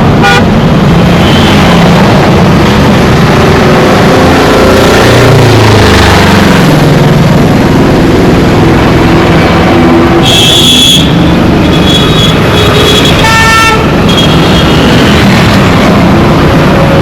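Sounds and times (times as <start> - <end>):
road traffic engines: 0.0 - 17.0.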